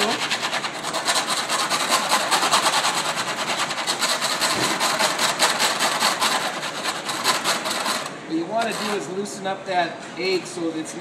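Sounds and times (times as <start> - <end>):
whisk scraping foil pan: 0.0 - 9.2.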